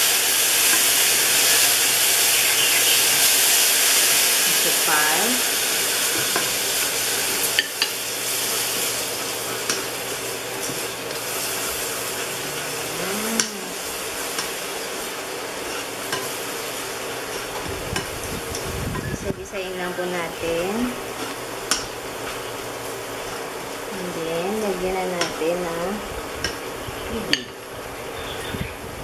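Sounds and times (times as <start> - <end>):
garlic sizzling in hot oil: 0.0 - 29.0.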